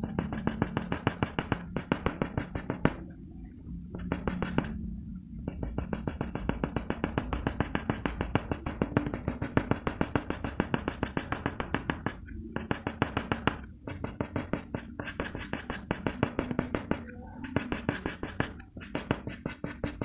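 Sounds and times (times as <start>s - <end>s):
pencil shading on paper: 0.0s - 3.1s, 3.9s - 20.0s.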